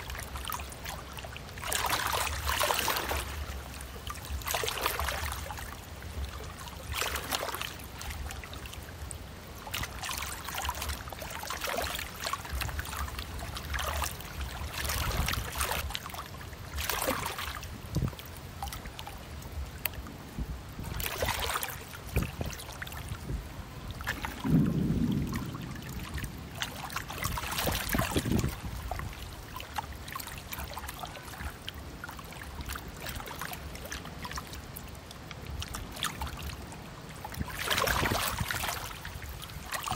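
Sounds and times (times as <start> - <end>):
ship engine low rumble: 0.0 - 39.9
water washing and splashing: 0.0 - 39.9.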